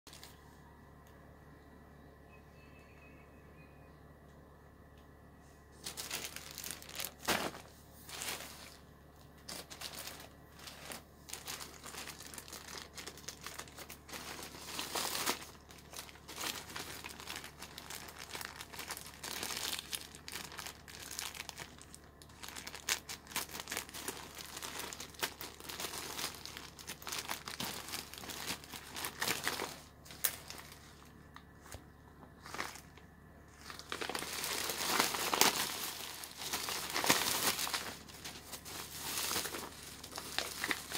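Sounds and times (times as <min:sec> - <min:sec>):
plastic tearing: 0:05.8 - 0:30.9, 0:32.4 - 0:40.9
plastic pouch crinkling: 0:05.8 - 0:40.9.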